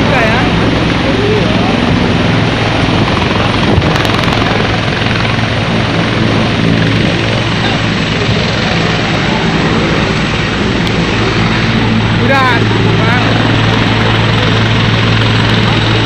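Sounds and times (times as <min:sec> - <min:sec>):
helicopter rotors and engine: 0:00.0 - 0:16.0.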